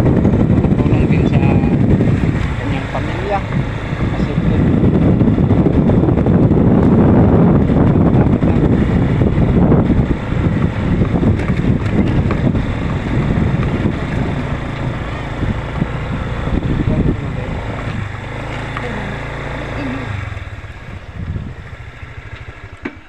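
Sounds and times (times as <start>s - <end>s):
motorcycle running: 0.0s - 23.0s
wind buffeting microphone: 0.0s - 23.0s.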